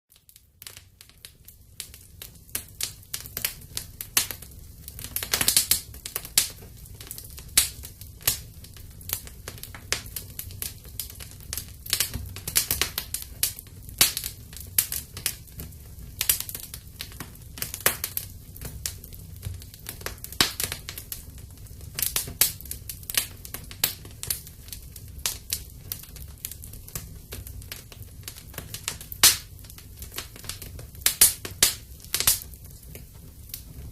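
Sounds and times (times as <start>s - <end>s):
wood fire crackling and popping: 0.1s - 33.9s
low rumble of flames: 0.2s - 33.9s.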